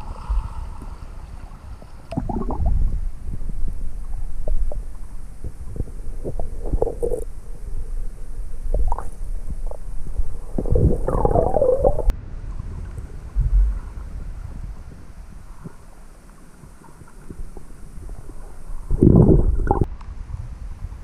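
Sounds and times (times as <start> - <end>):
muffled underwater rumble: 0.0 - 21.0.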